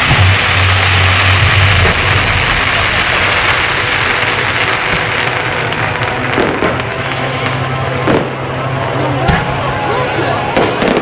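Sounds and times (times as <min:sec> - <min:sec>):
fireworks crackling hiss: 0:00.0 - 0:11.0.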